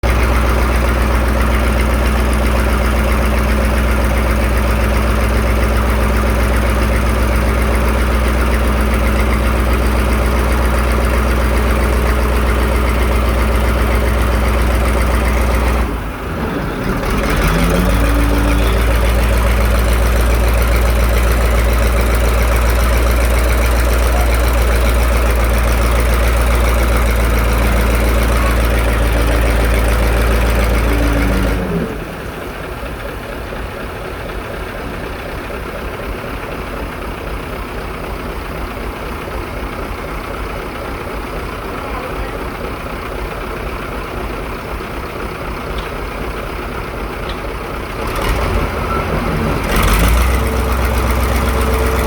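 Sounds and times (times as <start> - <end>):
pile driver engine humming: 0.0 - 52.0.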